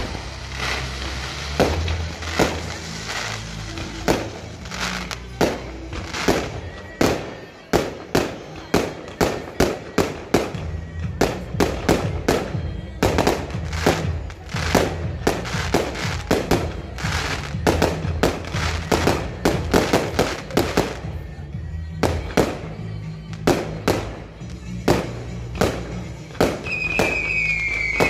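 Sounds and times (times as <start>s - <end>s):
music playing: 0.0s - 28.0s.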